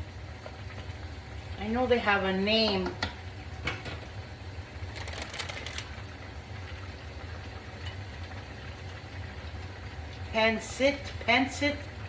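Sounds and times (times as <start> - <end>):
broth simmering and crackling: 0.0 - 12.0.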